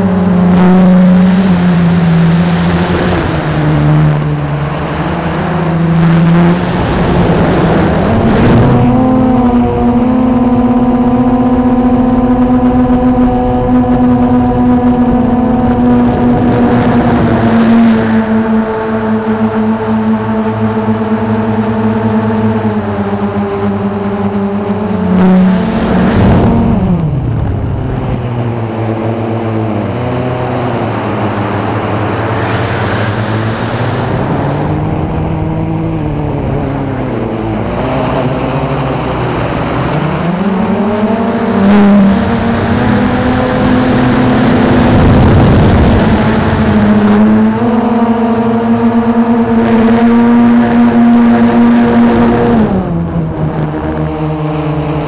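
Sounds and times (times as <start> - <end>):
drone motors and propellers whining: 0.0 - 55.0.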